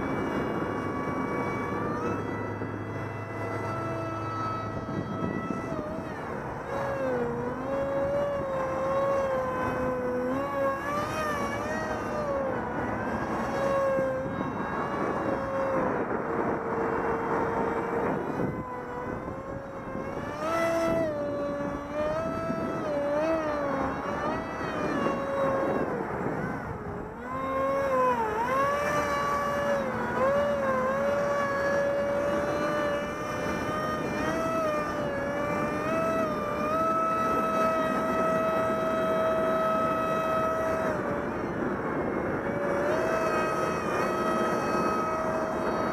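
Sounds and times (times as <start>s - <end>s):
model plane motor whining: 0.0s - 45.9s
wind buffeting microphone: 0.0s - 45.9s.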